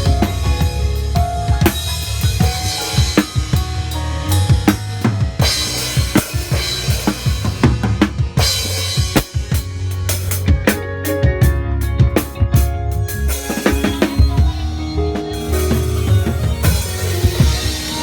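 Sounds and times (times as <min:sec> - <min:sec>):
drum kit: 0:00.0 - 0:18.0
other pitched instruments: 0:00.0 - 0:18.0
sustained bass line: 0:00.0 - 0:18.0.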